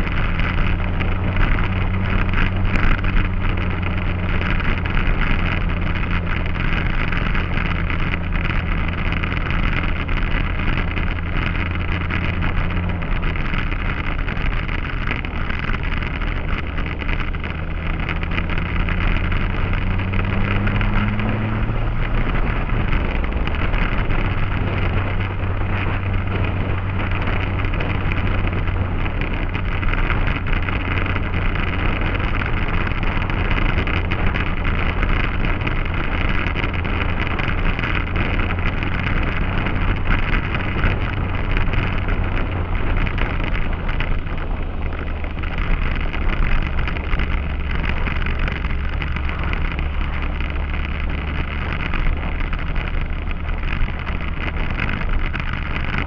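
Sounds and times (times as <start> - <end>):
motorcycle engine accelerating: 0.0 - 56.0
wind noise on microphone: 0.0 - 56.0.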